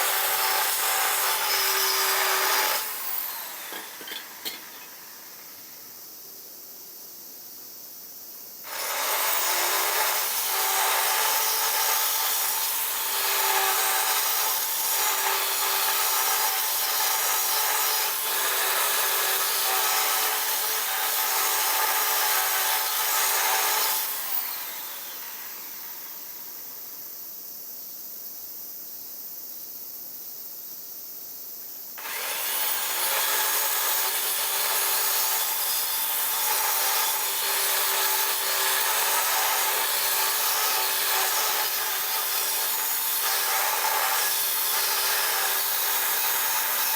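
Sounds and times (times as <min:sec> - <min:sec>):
power tool motor grinding: 0:00.0 - 0:05.2, 0:08.7 - 0:26.4, 0:32.0 - 0:46.9.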